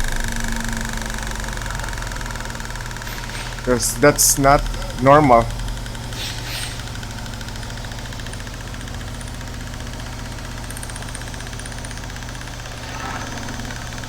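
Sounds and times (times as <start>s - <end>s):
drivetrain hum with fast pulsing: 0.0s - 14.0s.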